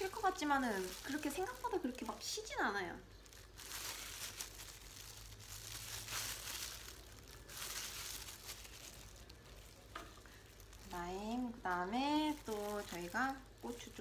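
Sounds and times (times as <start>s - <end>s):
plastic gloves crinkling: 0.0s - 14.0s.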